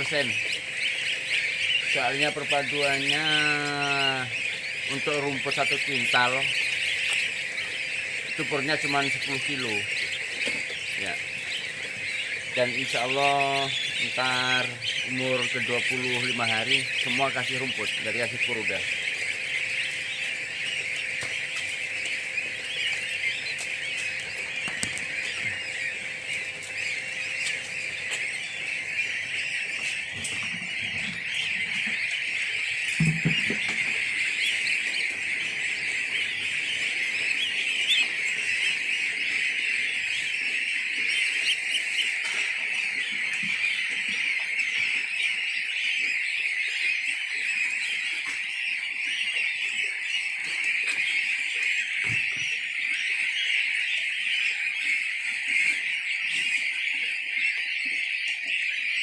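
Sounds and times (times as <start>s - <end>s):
goslings peeping: 0.0s - 59.0s.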